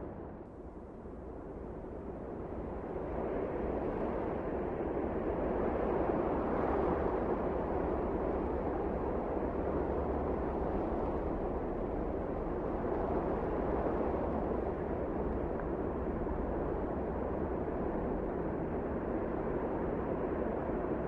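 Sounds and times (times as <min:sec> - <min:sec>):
wind blowing steadily: 0:00.0 - 0:21.0.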